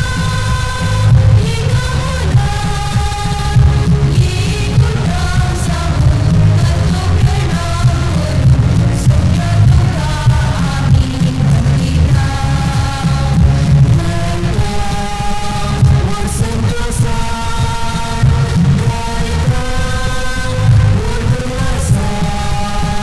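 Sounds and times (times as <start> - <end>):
band with guitar keyboard and drums: 0.0 - 23.0
choir singing: 0.0 - 23.0.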